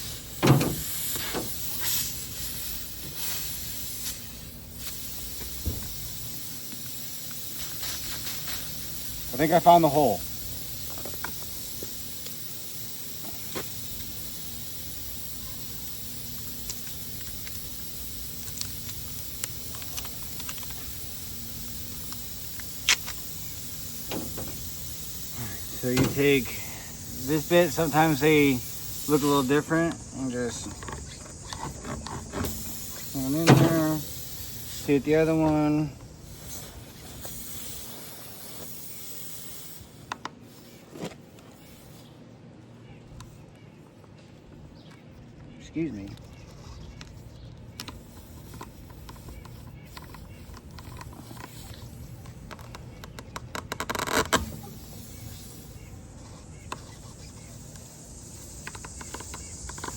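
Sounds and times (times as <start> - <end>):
steady hiss: 0.0 - 42.1, 47.3 - 59.9.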